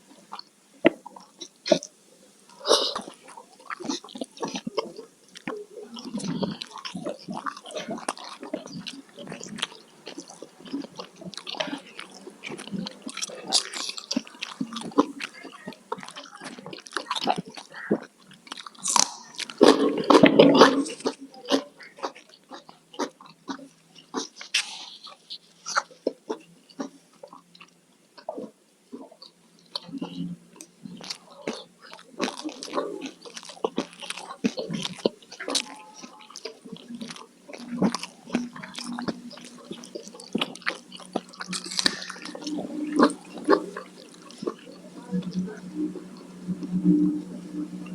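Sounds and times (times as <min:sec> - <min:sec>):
faint low hum: 0:00.0 - 0:47.9
person chewing crunchy food: 0:02.5 - 0:47.9.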